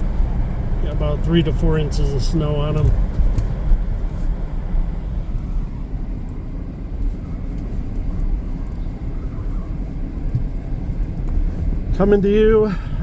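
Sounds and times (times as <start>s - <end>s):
road rumble inside moving car: 0.0s - 13.0s.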